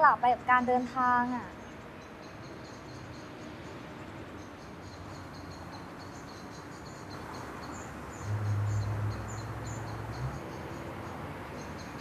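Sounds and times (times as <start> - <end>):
high insect-like chirping: 1.3 - 12.0.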